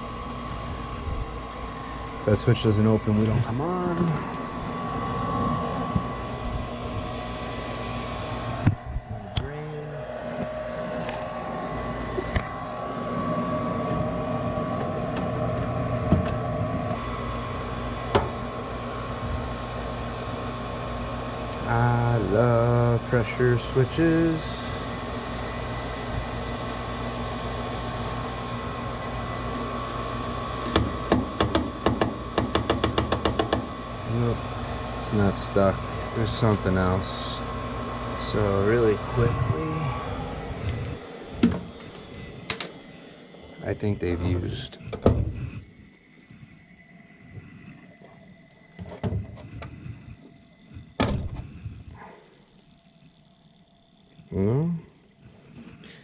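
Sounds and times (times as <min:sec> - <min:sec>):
faint steady whine: 0:00.0 - 0:56.0
furnace motor humming: 0:00.0 - 0:56.0.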